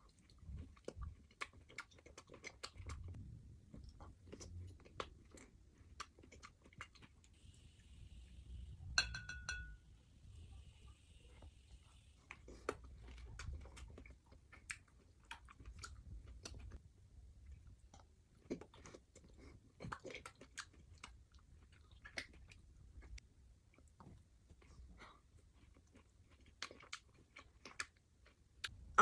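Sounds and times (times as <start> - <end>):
chewing and crunching vegetables: 0.0 - 7.4, 12.0 - 28.8.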